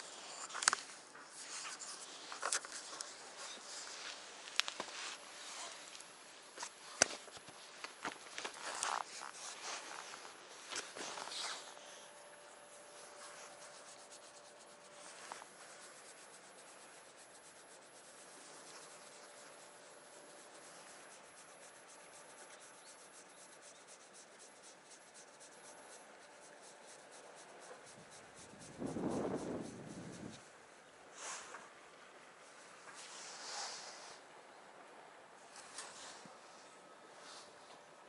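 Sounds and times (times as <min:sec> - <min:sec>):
fingers rubbing cat fur: 0:00.0 - 0:30.6
rustle: 0:00.0 - 0:38.0.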